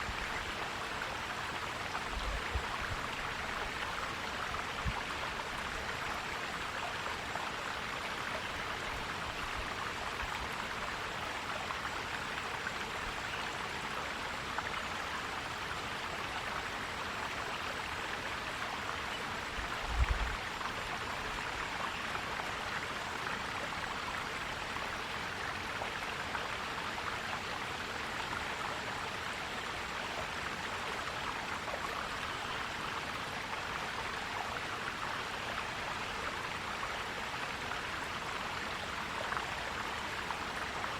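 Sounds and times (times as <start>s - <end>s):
stream flowing and gurgling: 0.0s - 40.9s.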